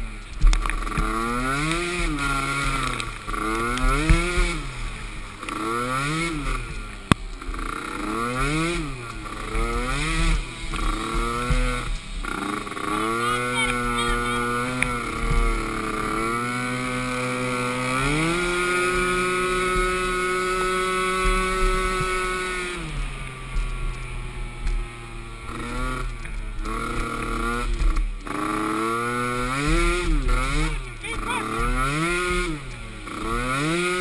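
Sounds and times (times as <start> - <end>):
atv engine revving: 0.0 - 34.0.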